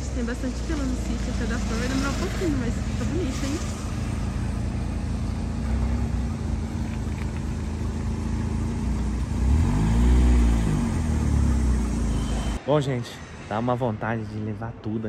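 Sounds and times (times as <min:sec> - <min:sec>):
van engine running: 0:00.0 - 0:12.6.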